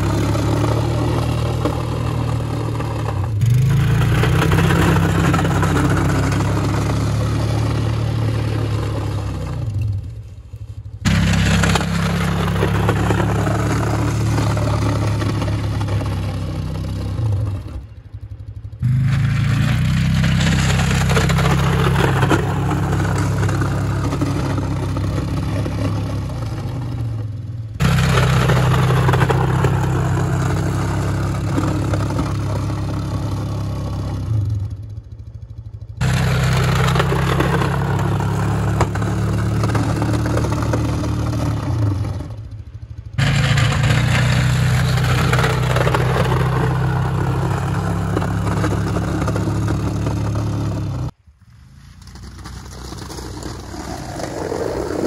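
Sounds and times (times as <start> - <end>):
plow blade scraping snow: 0.0 - 18.0, 18.8 - 34.7, 36.0 - 55.0
quad bike engine under load: 0.0 - 55.0.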